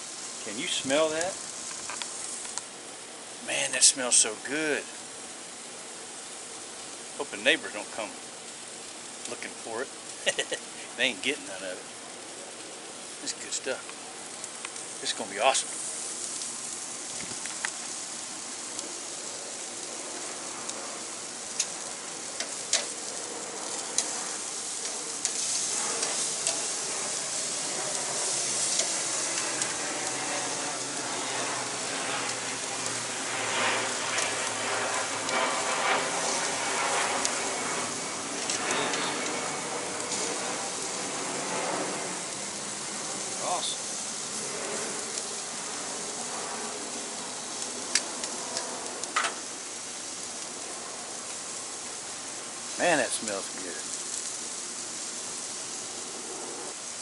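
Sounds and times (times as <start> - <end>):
meat sizzling on a grill: 0.0 - 57.0.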